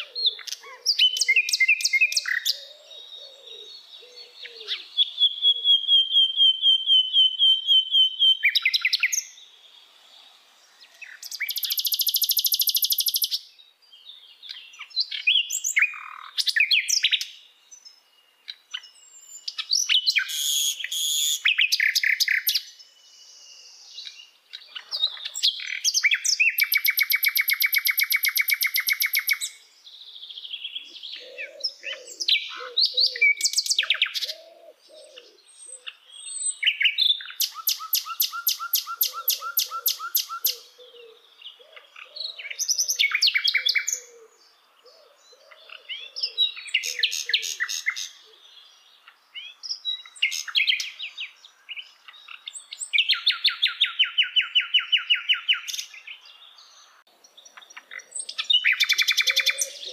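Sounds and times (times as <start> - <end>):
nightingale singing: 0.0 - 59.9.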